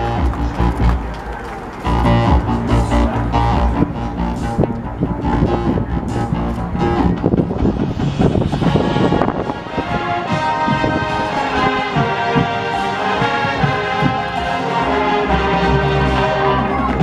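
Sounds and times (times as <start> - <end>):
marching band brass chords: 0.0 - 17.0
deep low brass note: 1.9 - 17.0.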